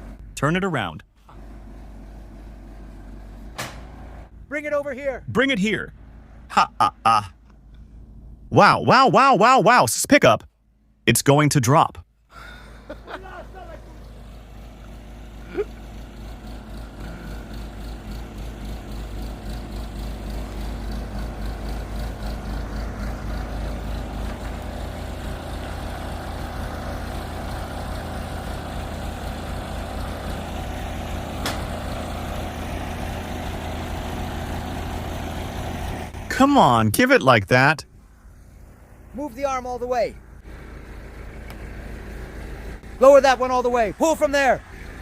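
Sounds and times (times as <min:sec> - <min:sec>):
diesel engine running: 0:00.0 - 0:11.1, 0:11.7 - 0:45.0.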